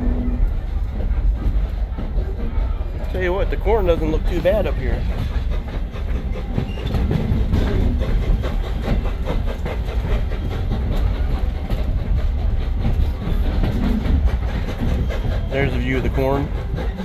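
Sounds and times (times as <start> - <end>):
train coach rumbling: 0.0 - 17.0
wheels clickety-clack: 0.0 - 17.0.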